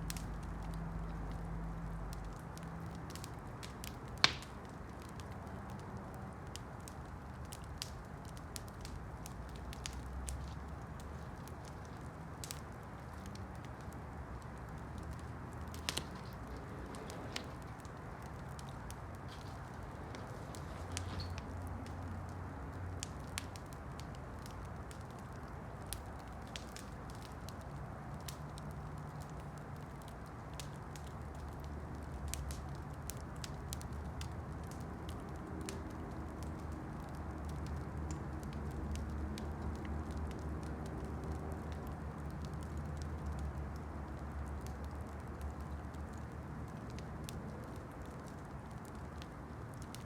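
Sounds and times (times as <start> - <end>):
campfire crackling and popping: 0.0 - 50.0.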